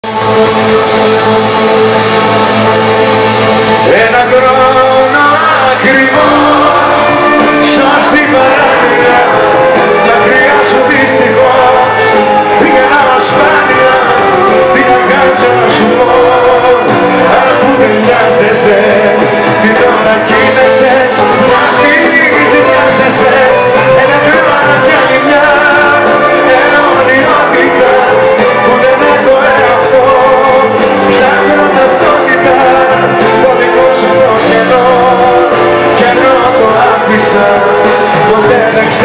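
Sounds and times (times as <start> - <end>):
live band music: 0.0 - 39.0
man singing: 3.5 - 39.0.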